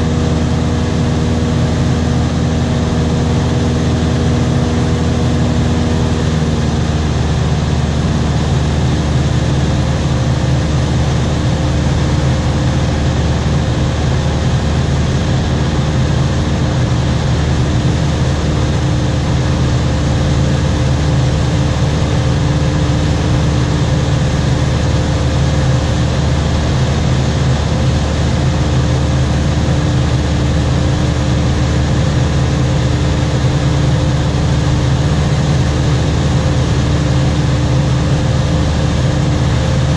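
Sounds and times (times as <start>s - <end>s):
aircraft engine cabin drone: 0.0s - 39.9s.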